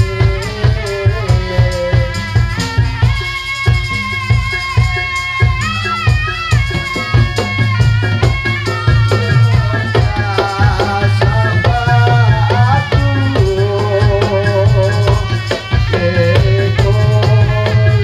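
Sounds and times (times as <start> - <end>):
drums beating fast rhythm: 0.0 - 18.0.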